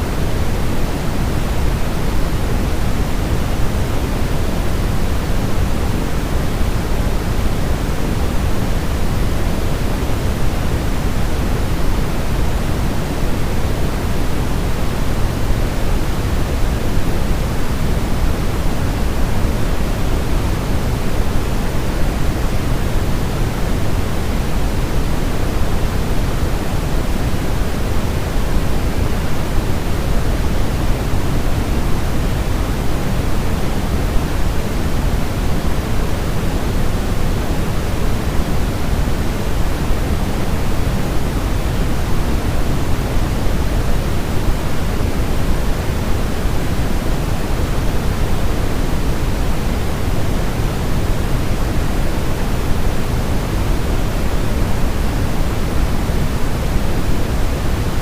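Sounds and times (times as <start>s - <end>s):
steady pink noise: 0.0s - 58.0s.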